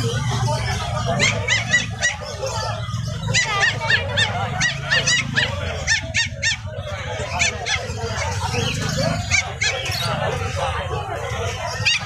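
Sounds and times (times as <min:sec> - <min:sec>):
puppies yelping: 0:00.0 - 0:12.0.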